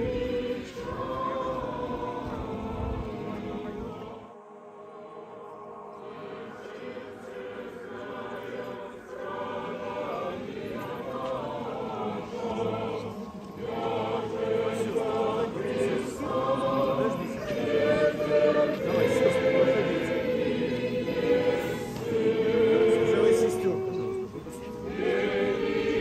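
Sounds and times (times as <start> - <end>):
choir chanting: 0.0 - 26.0.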